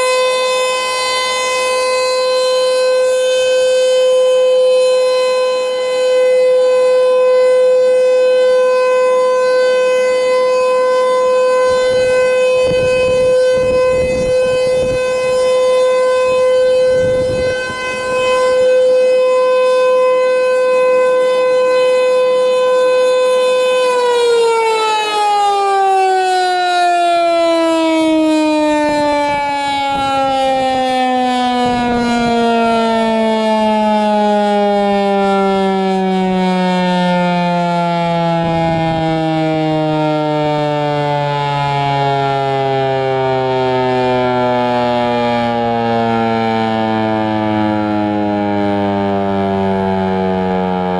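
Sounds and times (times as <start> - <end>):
warning siren: 0.0 - 50.9.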